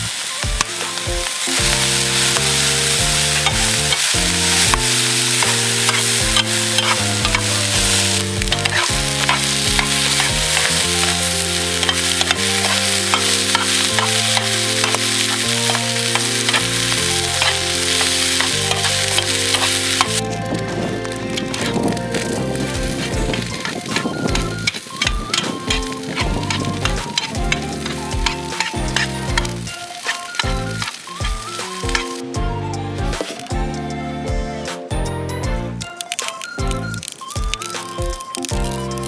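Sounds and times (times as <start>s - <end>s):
background music of low chords: 0.0s - 29.8s, 30.4s - 36.0s, 36.6s - 39.0s
food sizzling in frying: 0.0s - 32.4s.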